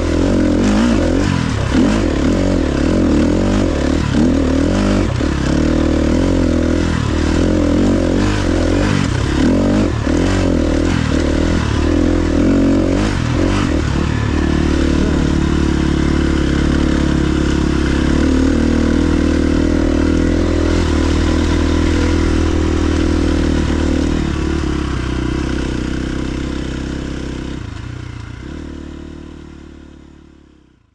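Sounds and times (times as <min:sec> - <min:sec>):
dirt bike engine running: 0:00.0 - 0:30.7.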